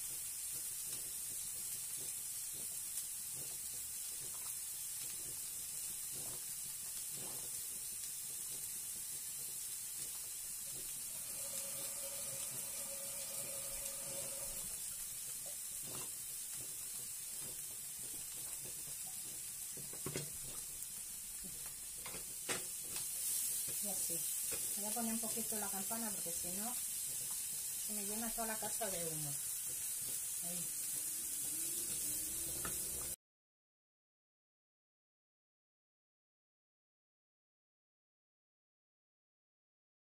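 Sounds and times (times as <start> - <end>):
onion sizzling in a pan: 0.0 - 33.2.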